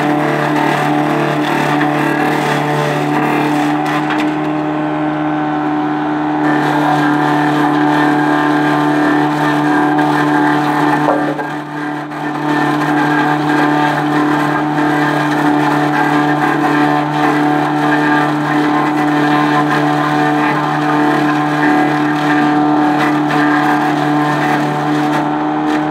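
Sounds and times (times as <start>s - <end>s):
debarking machine droning: 0.0s - 25.9s.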